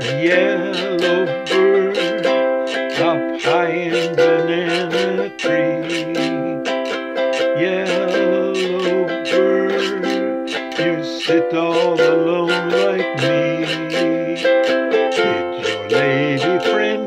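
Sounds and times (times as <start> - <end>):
man singing: 0.0 - 17.0
ukulele strumming: 0.0 - 17.0.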